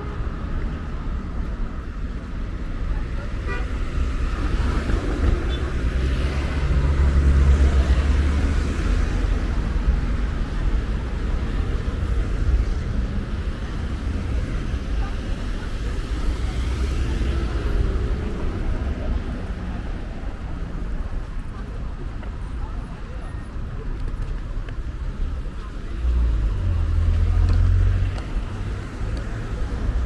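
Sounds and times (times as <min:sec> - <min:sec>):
cars passing on a street: 0:00.0 - 0:30.0.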